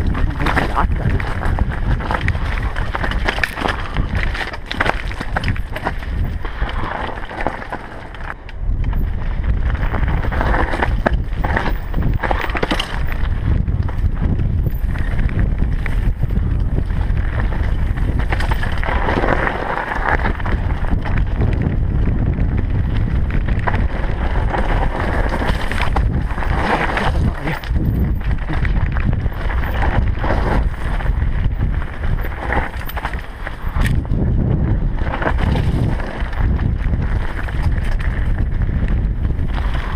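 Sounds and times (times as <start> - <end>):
bike rattling and knocking: 0.0 - 39.9
tyres crunching over stones: 0.0 - 39.9
wind buffeting microphone: 0.0 - 39.9.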